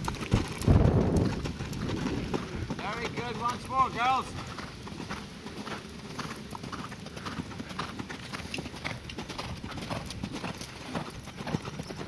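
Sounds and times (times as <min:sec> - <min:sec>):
horse cantering on sand: 0:00.0 - 0:12.0.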